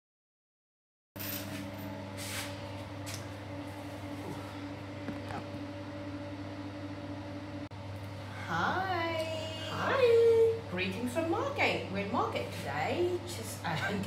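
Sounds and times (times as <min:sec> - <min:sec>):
low electrical hum: 0:01.2 - 0:14.0.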